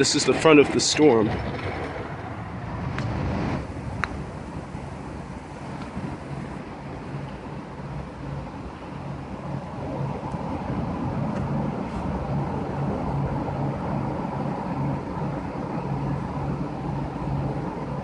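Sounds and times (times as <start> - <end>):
wind gusts rumbling on microphone: 0.0 - 18.0.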